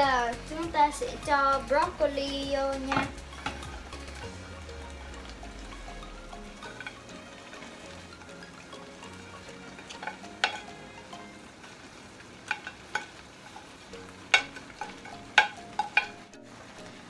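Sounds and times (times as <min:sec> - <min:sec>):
sauce sizzling in frying pan: 0:00.0 - 0:17.0.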